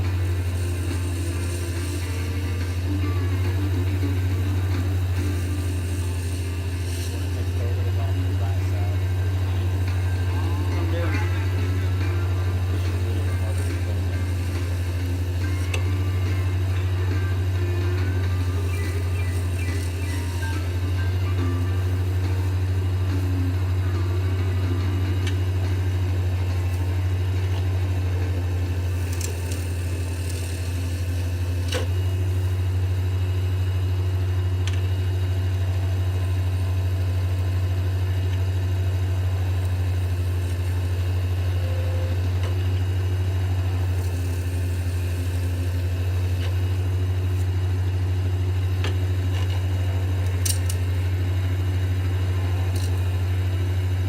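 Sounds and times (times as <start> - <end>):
lathe motor humming: 0.0 - 54.0.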